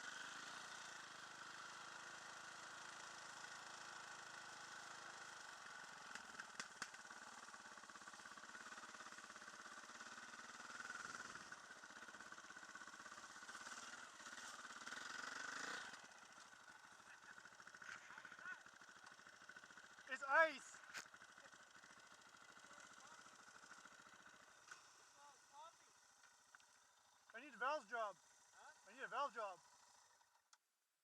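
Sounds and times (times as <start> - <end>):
faint dirt bike engine: 0.0 - 30.7.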